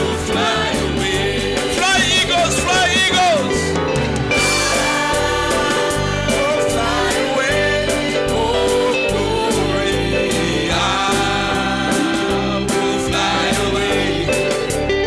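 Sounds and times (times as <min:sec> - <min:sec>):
bass: 0:00.0 - 0:15.0
gospel singing: 0:00.0 - 0:15.0
guitar: 0:00.0 - 0:15.0
steady drum beat: 0:00.0 - 0:15.0.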